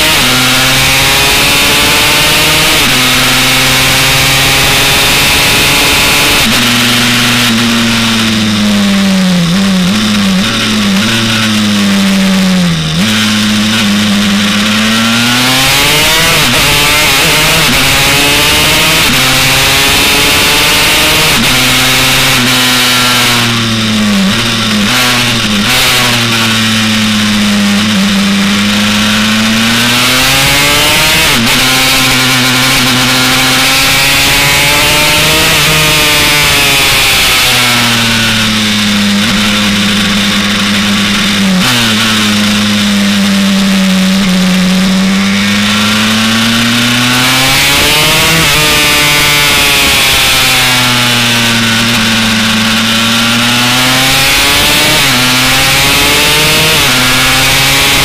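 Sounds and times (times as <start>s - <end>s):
two-stroke motorbike engine racing: 0.0s - 58.0s.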